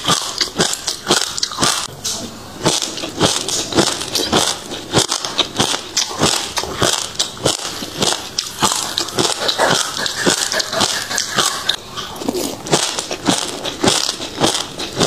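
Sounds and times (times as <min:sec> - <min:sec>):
seeds crunching while chewed: 0:00.0 - 0:01.9, 0:02.6 - 0:15.0.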